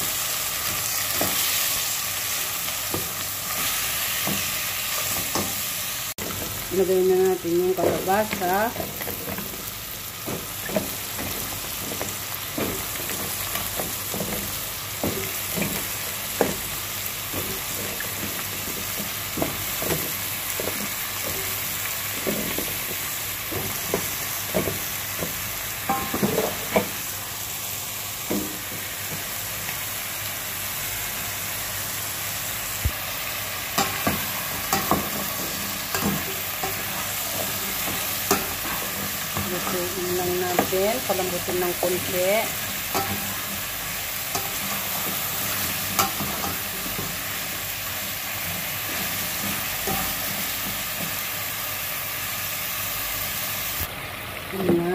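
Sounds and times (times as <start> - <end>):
oil sizzling in a pot: 0.0 - 54.9.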